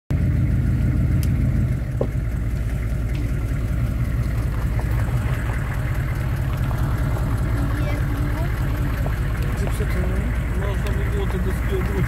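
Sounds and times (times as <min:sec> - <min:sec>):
diesel engine droning: 0:00.1 - 0:12.0.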